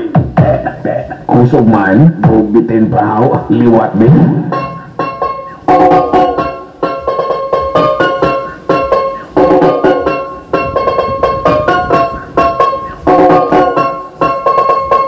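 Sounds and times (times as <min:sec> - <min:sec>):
plucked string music over speaker: 0:00.0 - 0:15.0.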